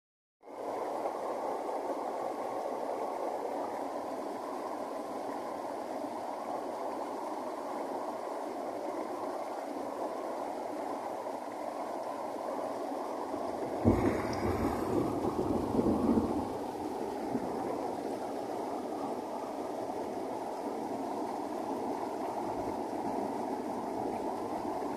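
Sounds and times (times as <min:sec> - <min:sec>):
stormwater rushing down a ditch: 0:00.4 - 0:24.9.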